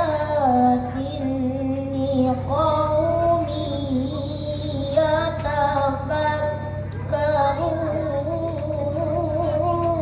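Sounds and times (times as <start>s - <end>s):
child reciting melodically: 0.0s - 10.0s.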